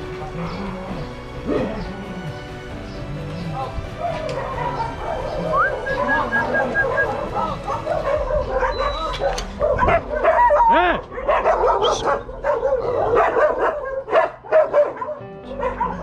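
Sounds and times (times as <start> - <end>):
many dogs barking: 0.0 - 16.0.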